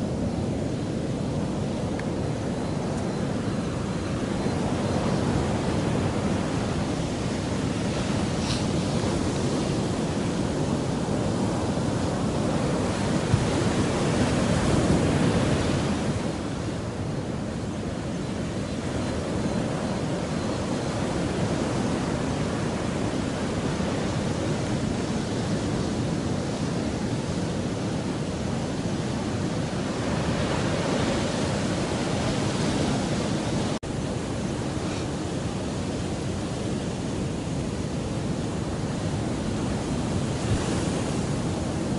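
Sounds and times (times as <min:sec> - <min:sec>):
surf breaking on beach: 0:00.0 - 0:41.9
wind on microphone: 0:00.0 - 0:41.9.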